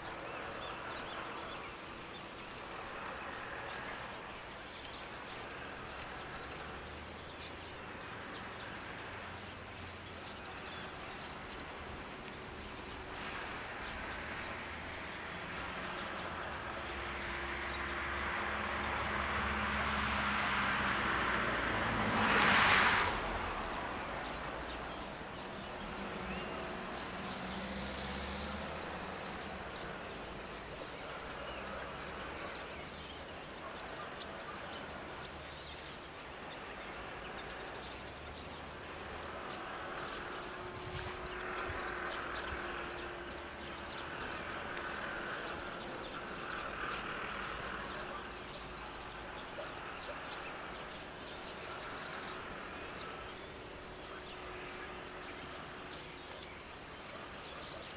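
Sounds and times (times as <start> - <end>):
distant vehicle passing: 5.4 - 35.5, 36.3 - 57.5.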